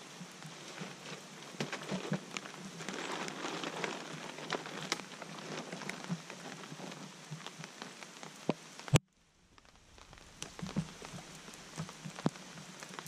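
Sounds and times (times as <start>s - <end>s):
plastic tarp rustling: 0.0s - 8.0s, 9.5s - 13.0s
rain pattering: 0.0s - 13.0s.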